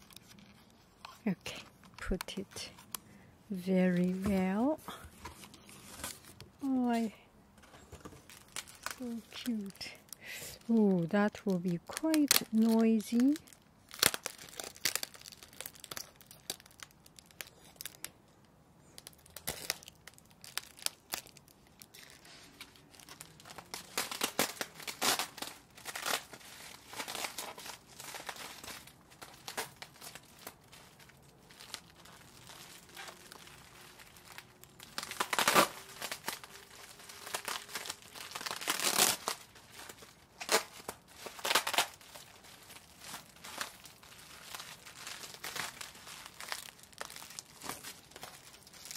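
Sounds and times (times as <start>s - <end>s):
plastic air pillows crinkling: 0.0s - 48.9s.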